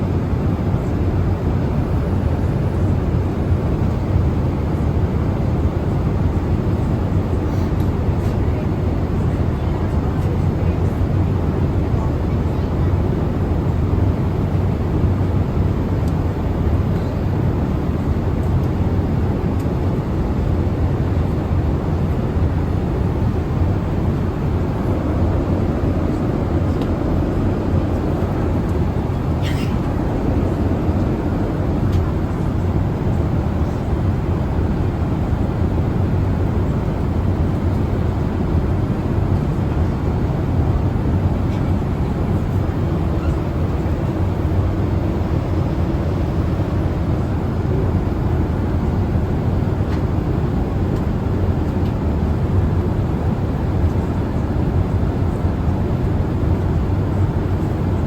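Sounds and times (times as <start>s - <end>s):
airplane cabin noise in flight: 0.0s - 58.0s.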